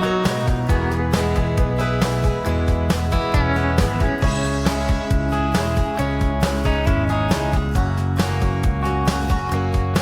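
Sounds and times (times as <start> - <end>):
upbeat acoustic guitar strumming: 0.0 - 10.0.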